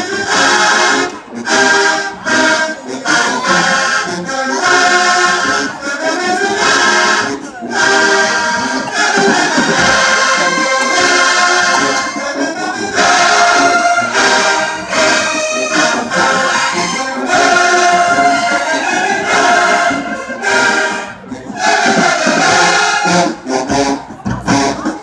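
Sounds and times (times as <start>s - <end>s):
marching band brass chords: 0.0s - 25.0s.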